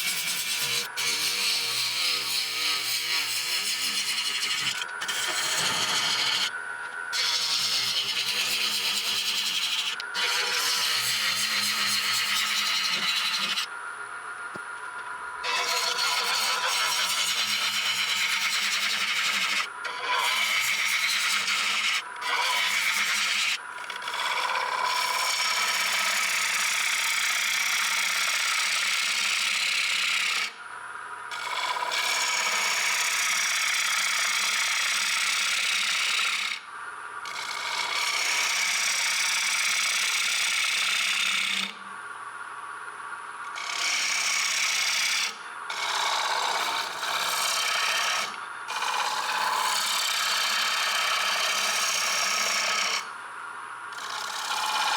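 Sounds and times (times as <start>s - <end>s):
lathe tool cutting wood hissing: 0.0s - 6.5s, 7.1s - 13.7s, 15.4s - 30.6s, 31.3s - 36.6s, 37.2s - 41.8s, 43.6s - 53.1s, 53.9s - 54.9s.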